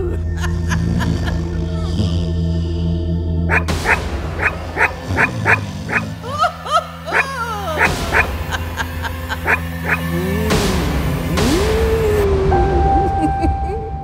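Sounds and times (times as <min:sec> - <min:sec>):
low music drone: 0:00.0 - 0:14.0.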